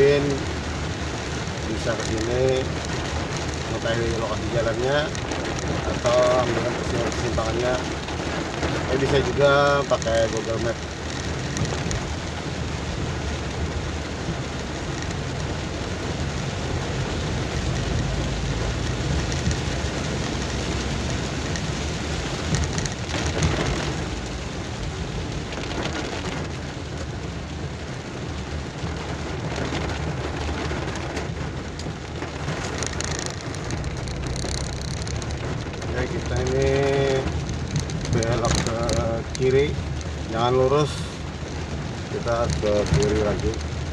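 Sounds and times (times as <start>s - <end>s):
engine and road rumble: 0.0s - 43.9s
heavy rain pattering on car: 0.0s - 43.9s.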